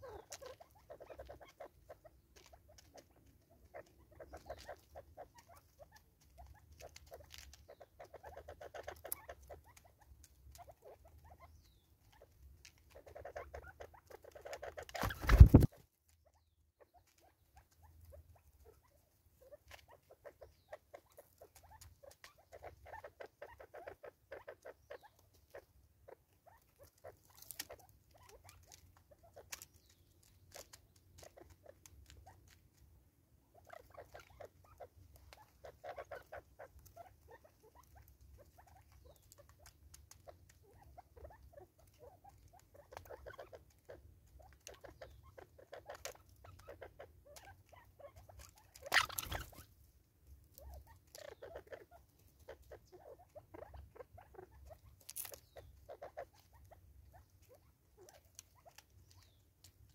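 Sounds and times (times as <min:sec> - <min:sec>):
birds pecking at plastic feeder: 0:00.0 - 0:59.9.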